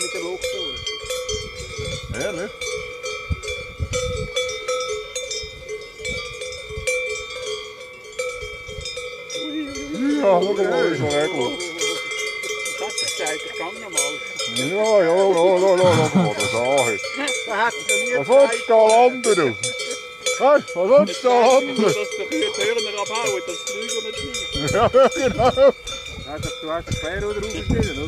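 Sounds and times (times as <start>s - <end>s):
cowbells clanking: 0.0s - 28.0s.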